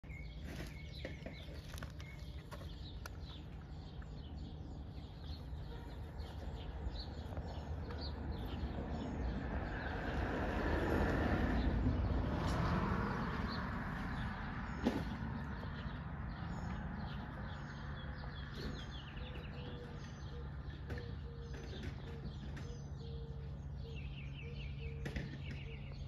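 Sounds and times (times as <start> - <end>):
small birds chirping: 0.0 - 26.0
vehicle approaching: 0.0 - 26.0.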